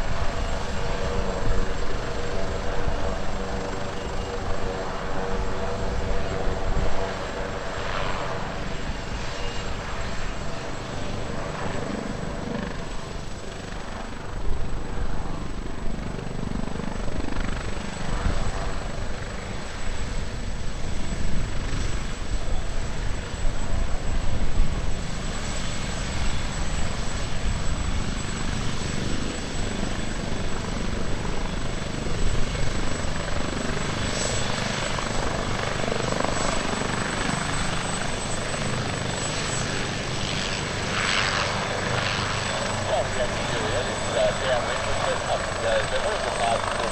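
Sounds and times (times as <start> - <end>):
helicopter rotor and engine: 0.0 - 46.9.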